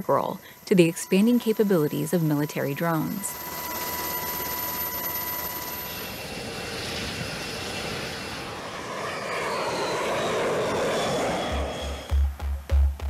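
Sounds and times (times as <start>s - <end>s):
jet engine roar with high whine: 0.0s - 12.2s.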